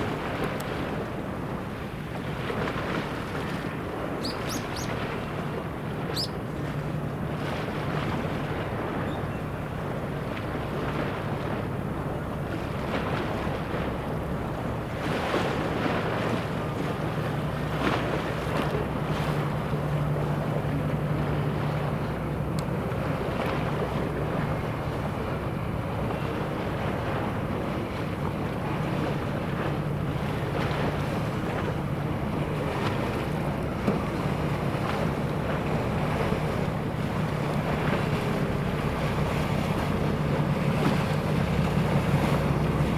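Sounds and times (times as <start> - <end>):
boat engine droning: 0.0 - 42.9
water lapping: 0.0 - 42.9
wind buffeting microphone: 0.0 - 42.9.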